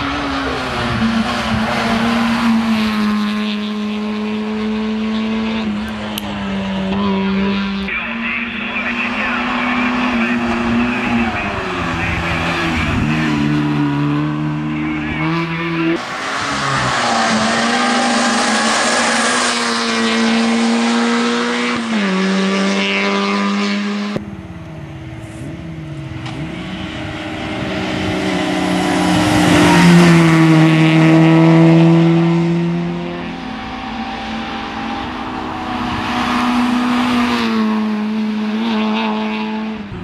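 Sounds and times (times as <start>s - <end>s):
rally car engine racing: 0.0s - 40.0s.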